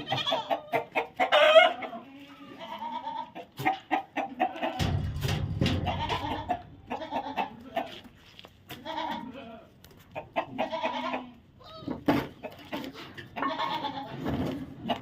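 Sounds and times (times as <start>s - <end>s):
goats bleating: 0.0s - 3.6s, 4.2s - 12.0s, 12.7s - 14.3s.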